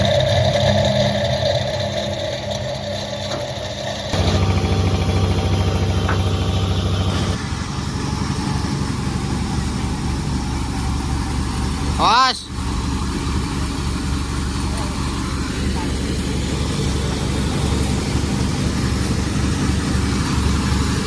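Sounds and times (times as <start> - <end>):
sawmill engine running: 0.0 - 21.0.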